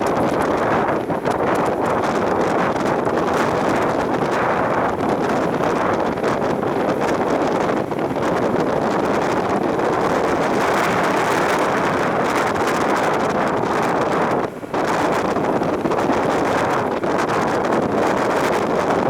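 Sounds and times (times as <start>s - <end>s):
strong wind across microphone: 0.0s - 19.0s.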